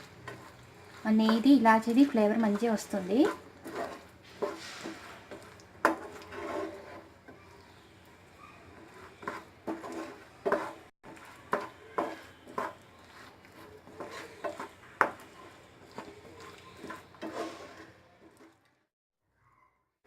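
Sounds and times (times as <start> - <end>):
spoon scraping and knocking a pan: 0.0 - 18.7.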